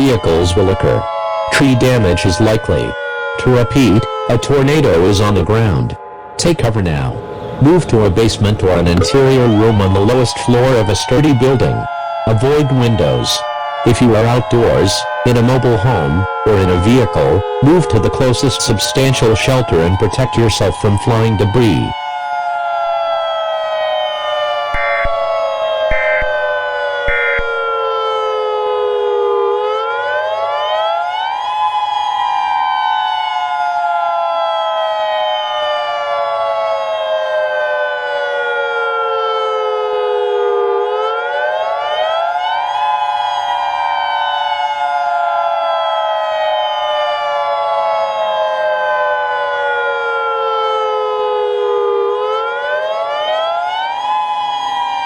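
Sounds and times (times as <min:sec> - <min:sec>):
warning siren rising and falling: 0:00.0 - 0:55.0.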